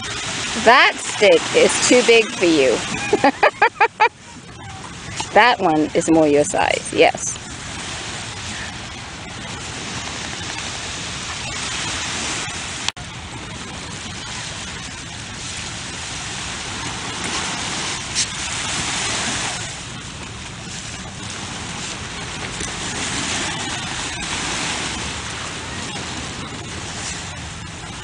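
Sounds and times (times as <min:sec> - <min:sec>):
ocean surf rushing: 0:00.0 - 0:28.0.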